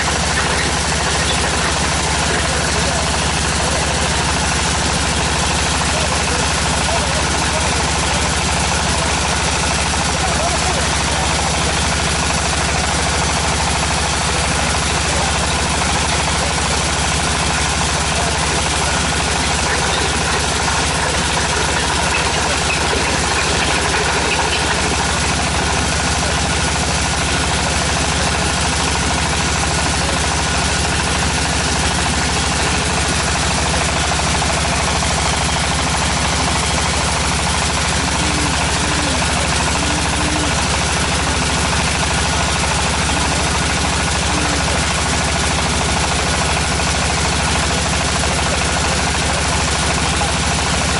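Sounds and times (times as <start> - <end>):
drilling rig engine droning: 0.0 - 50.9.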